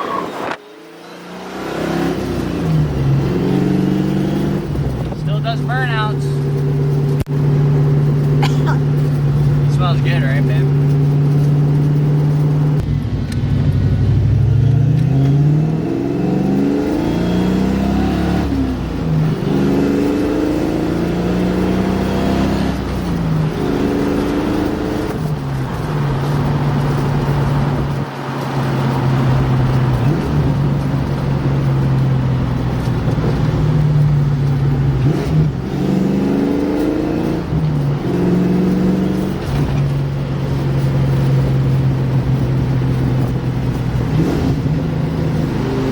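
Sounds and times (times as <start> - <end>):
car engine accelerating: 0.0 - 45.9.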